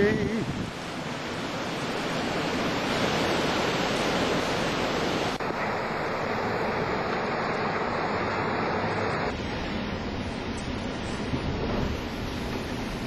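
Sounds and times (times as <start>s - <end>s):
hurricane wind: 0.0s - 13.0s
rushing storm water: 0.0s - 13.0s.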